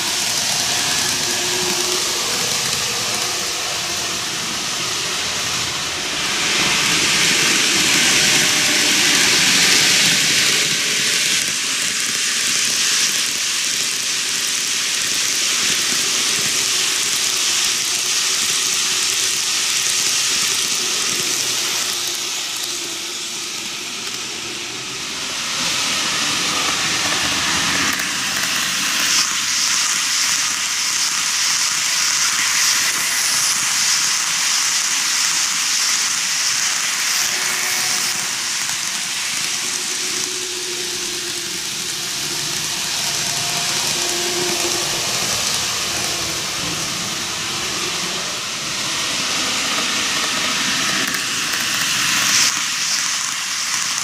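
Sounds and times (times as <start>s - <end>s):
model train rolling hiss: 0.0s - 54.0s.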